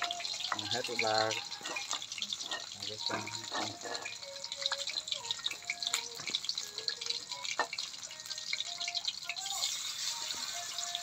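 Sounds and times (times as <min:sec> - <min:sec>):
frying in hot oil: 0:00.0 - 0:11.0.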